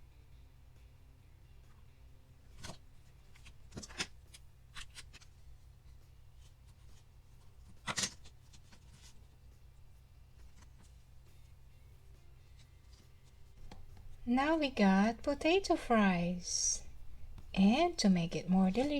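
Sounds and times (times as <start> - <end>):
low steady hum: 0.0 - 18.9.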